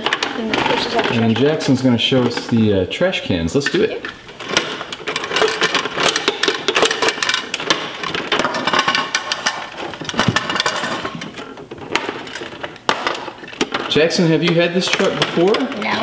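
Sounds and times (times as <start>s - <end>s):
plastic toy clicking and rattling: 0.0s - 2.7s, 3.6s - 16.0s.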